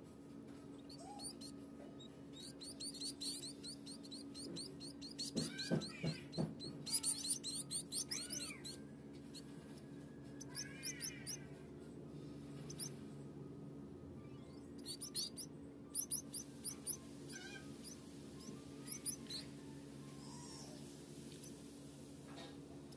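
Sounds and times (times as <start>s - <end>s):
nestlings squeaky begging chirps: 0.8s - 11.5s, 12.6s - 13.0s, 14.2s - 21.8s.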